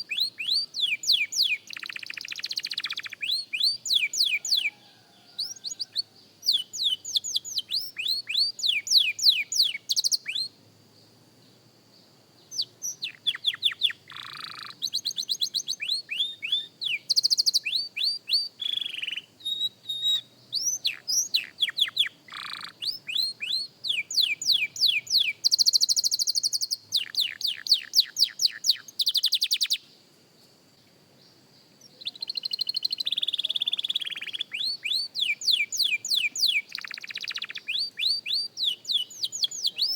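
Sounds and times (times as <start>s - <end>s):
canary singing: 0.0s - 10.5s, 12.4s - 29.9s, 31.8s - 39.9s.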